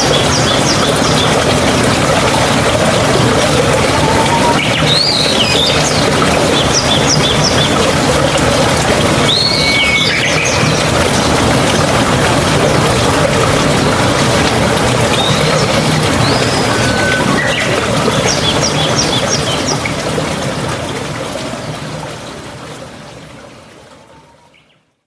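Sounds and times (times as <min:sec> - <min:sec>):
flowing stream water: 0:00.0 - 0:24.8.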